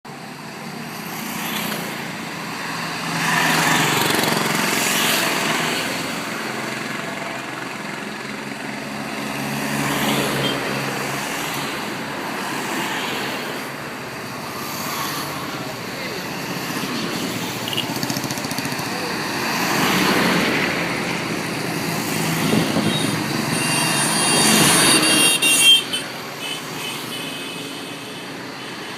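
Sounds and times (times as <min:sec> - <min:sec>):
vehicles passing: 0:00.1 - 0:28.9.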